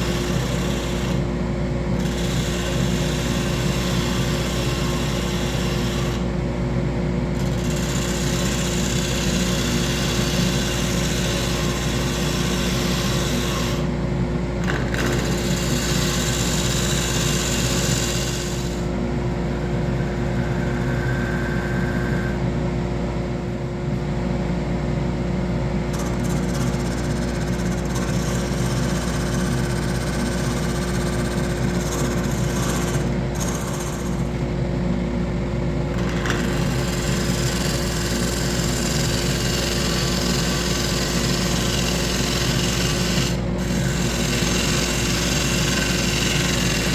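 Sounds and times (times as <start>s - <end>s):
woodworking power tool humming: 0.0s - 6.4s, 7.4s - 22.7s, 25.9s - 34.6s, 35.9s - 46.9s.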